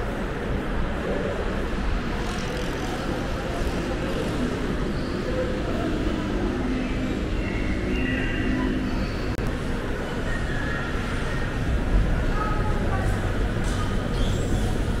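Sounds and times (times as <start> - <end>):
faint voices: 0.0 - 15.0
low city rumble: 0.0 - 15.0.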